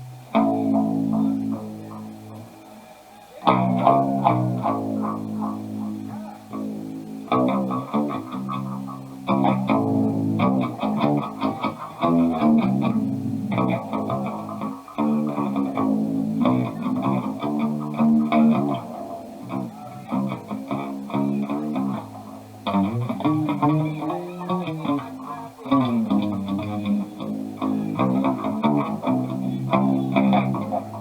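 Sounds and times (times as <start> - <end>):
guitar music: 0.0 - 31.0
bass line: 3.5 - 31.0.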